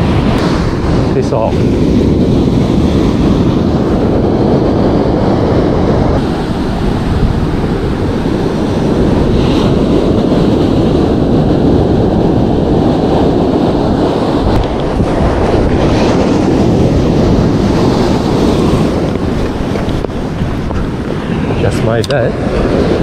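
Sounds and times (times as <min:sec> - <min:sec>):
surf washing onto beach: 0:00.0 - 0:23.0
wind noise on microphone: 0:00.0 - 0:23.0.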